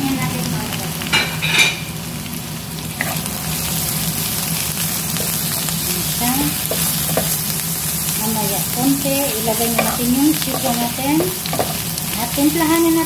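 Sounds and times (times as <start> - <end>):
onions sizzling in hot oil: 0.0 - 13.0
steady low hum: 0.0 - 13.0.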